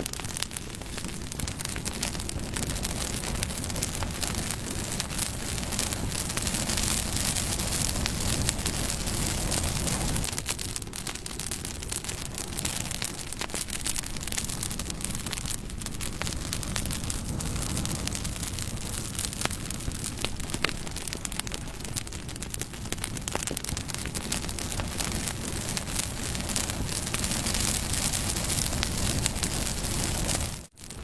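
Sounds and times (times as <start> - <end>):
campfire wood crackling: 0.0 - 31.0
low rush of flame: 0.0 - 31.0.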